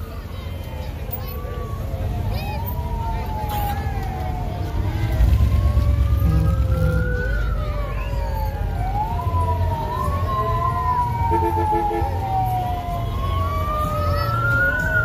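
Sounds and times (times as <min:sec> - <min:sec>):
sirens wailing: 0:00.0 - 0:15.0.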